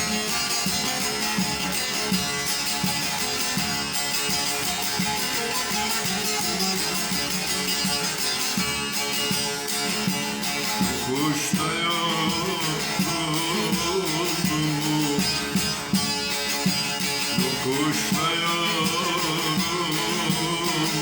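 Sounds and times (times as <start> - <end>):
plucked string instruments melody: 0.0 - 21.0.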